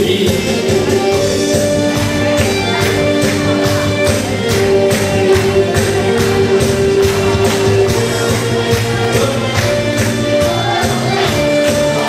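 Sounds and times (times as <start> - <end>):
upbeat song over loudspeakers: 0.0 - 12.0.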